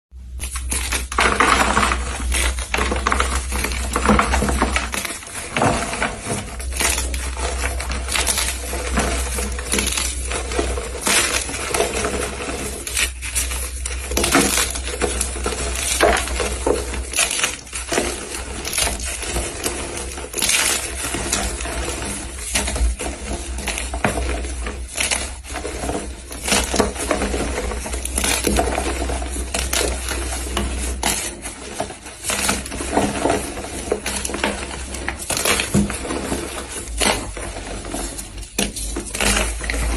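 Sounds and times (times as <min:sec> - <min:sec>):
chalk being crushed: 0:00.3 - 0:39.9.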